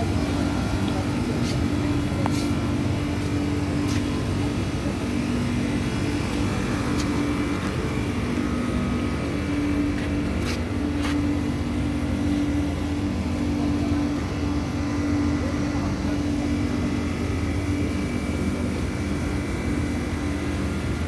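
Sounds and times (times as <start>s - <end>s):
constant hum tone: 0.0s - 21.0s
low mechanical rumble: 0.0s - 21.0s.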